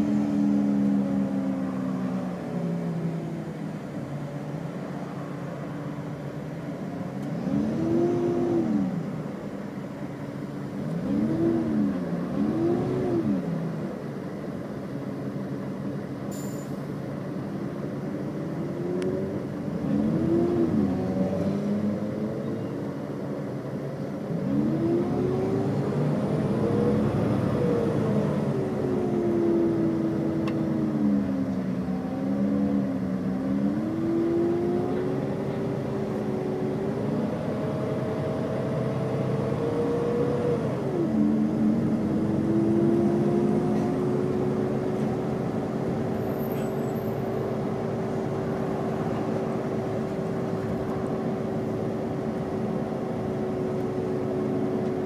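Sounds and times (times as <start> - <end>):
bus diesel engine revving: 0.0 - 55.0.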